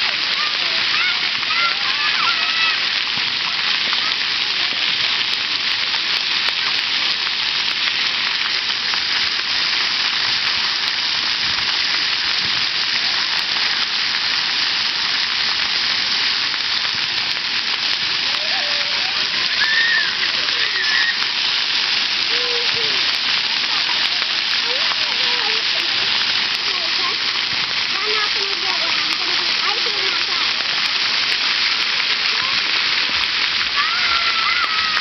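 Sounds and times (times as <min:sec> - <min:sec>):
water jets spraying on concrete: 0:00.0 - 0:35.0.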